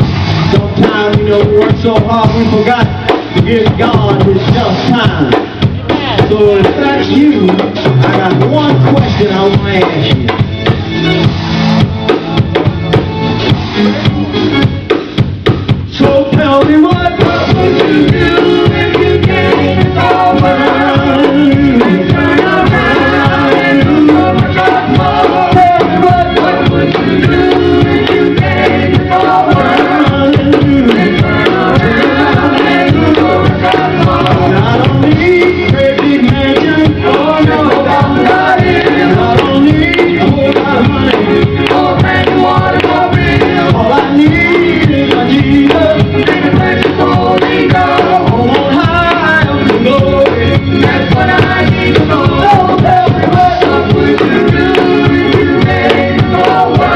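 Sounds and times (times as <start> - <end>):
singers: 0.0 - 11.0, 15.9 - 56.9
drum hits: 0.0 - 56.9
gospel band playing: 0.0 - 56.9.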